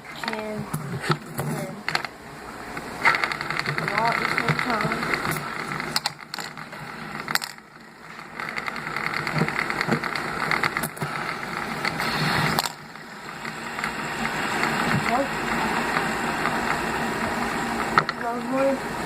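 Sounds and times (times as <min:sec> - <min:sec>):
fidget spinners whirring: 0:00.0 - 0:19.0.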